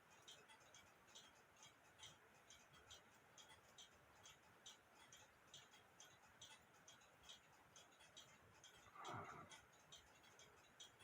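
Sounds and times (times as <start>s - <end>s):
clock ticking: 0.0s - 11.0s.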